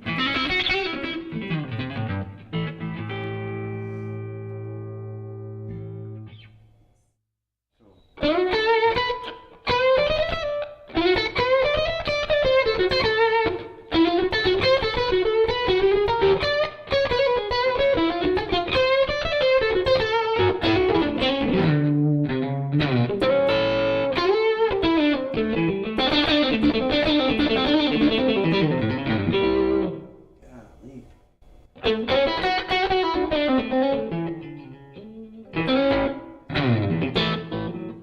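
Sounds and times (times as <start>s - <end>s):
electric guitar blues lead: 0.0s - 6.5s, 8.2s - 30.1s, 31.8s - 38.0s.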